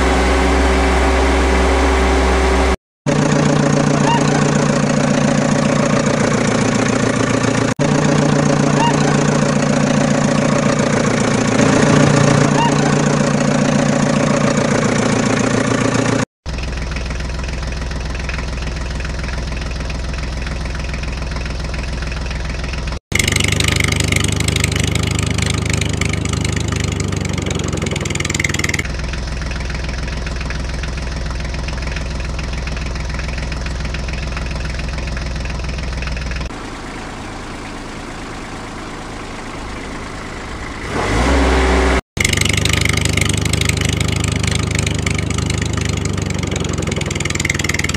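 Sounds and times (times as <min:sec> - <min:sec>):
vehicle engine idling: 0:00.0 - 0:47.9.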